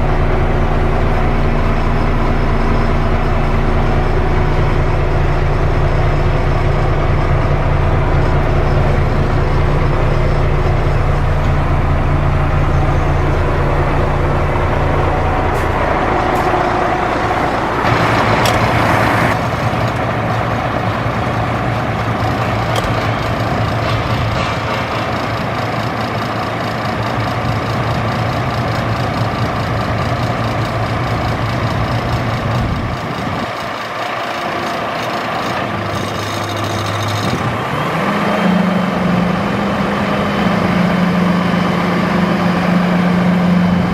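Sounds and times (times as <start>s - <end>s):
dump truck engine running: 0.0s - 43.9s.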